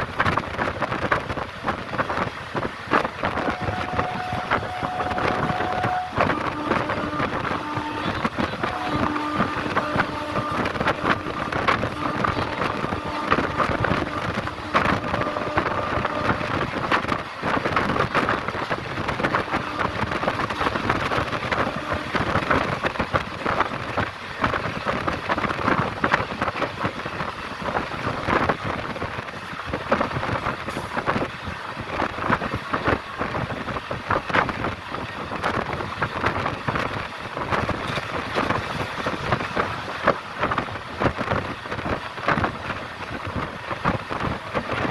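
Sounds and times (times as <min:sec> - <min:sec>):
fast train on rails: 0:00.0 - 0:44.9.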